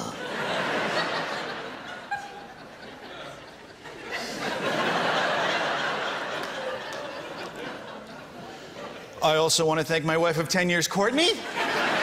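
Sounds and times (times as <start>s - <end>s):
audience laughing: 0.0s - 9.2s, 11.3s - 12.0s.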